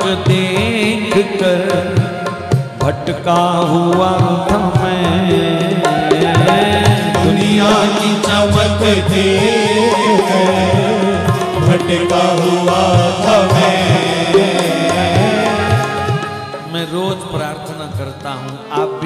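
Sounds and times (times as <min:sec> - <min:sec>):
instrumental devotional music: 0:00.0 - 0:19.0
steady drumming: 0:00.0 - 0:19.0.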